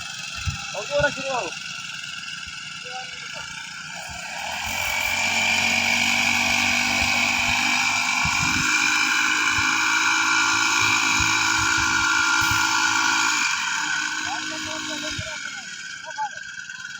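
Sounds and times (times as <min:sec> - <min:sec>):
small petrol engine at high revs: 0:00.0 - 0:16.9.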